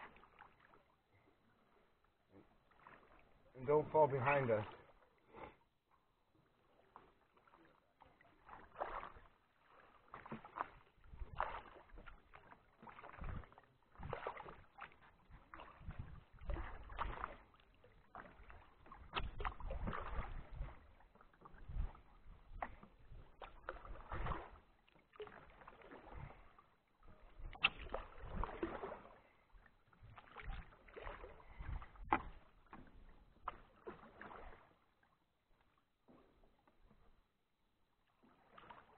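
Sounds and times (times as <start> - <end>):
paddle swishing and splashing: 0.0 - 38.9.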